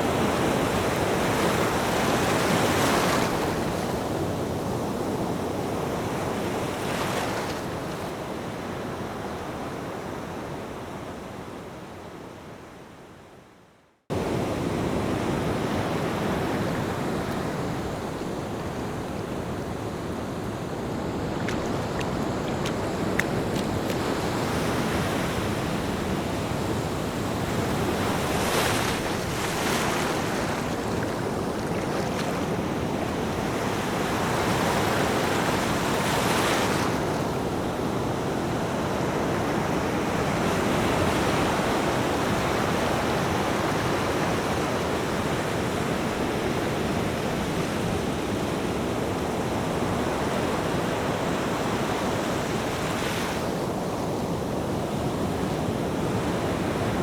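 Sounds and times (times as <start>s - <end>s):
ocean surf washing: 0.0s - 9.1s, 14.1s - 57.0s.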